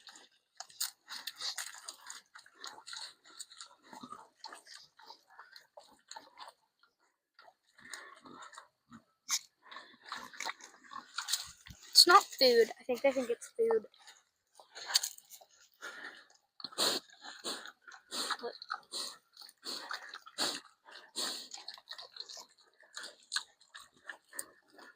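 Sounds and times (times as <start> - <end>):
pigs chewing and crunching: 0.0 - 24.9.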